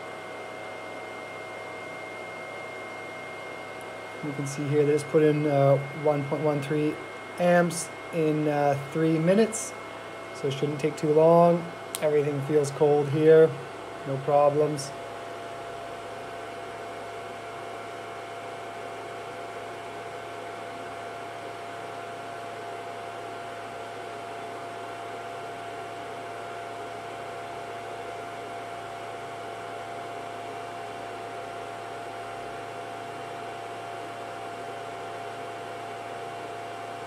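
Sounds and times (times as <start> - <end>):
cooling fans whirring: 0.0 - 37.0.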